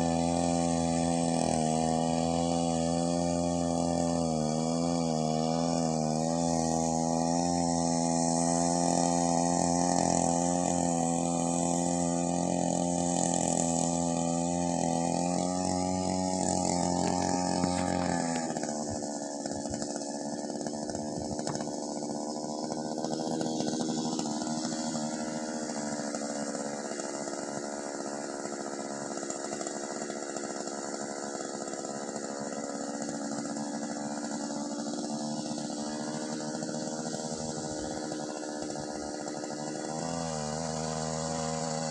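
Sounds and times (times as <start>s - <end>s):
small petrol engine running: 0.0s - 41.9s.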